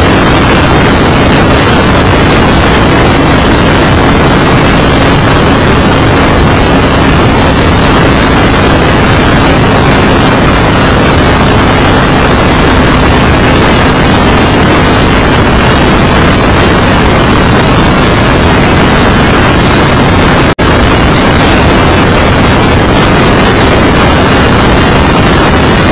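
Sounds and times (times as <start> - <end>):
race car engine: 0.0 - 25.9
wind rush: 0.0 - 25.9.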